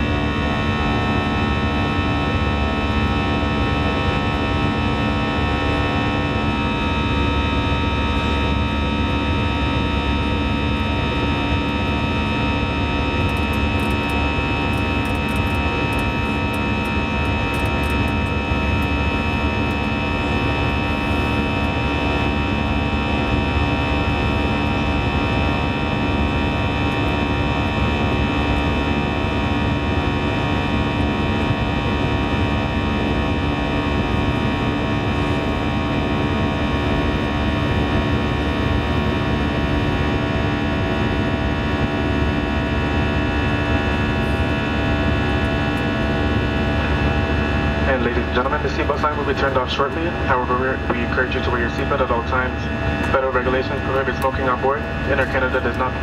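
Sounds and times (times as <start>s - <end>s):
jet engine drone with buzzsaw tones: 0.0s - 56.0s.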